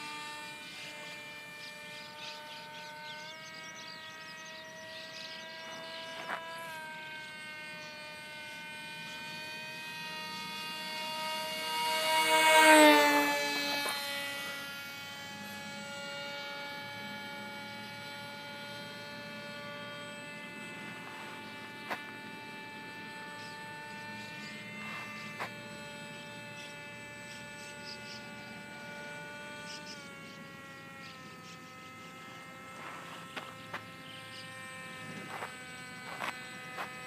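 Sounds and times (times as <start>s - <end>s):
model aeroplane motor buzzing: 0.0s - 37.0s.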